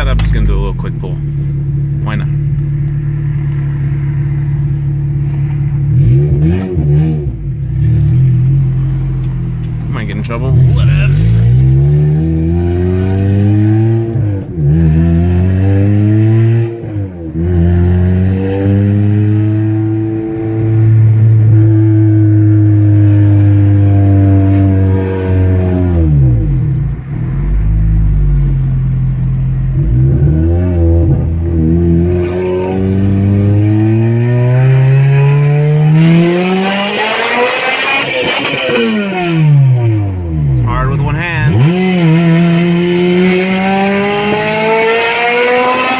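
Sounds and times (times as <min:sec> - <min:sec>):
car engine revving hard: 0:05.2 - 0:09.2, 0:10.0 - 0:28.6, 0:29.7 - 0:45.9.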